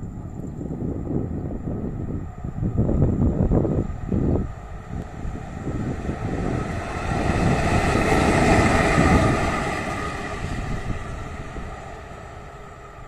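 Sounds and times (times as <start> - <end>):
electric locomotive passing: 0.0 - 13.0
wheels rumbling on rails: 0.0 - 13.0.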